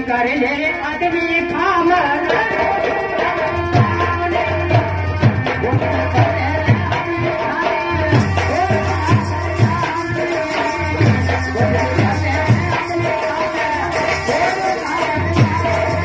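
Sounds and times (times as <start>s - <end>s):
hand drums beating: 1.0s - 16.0s.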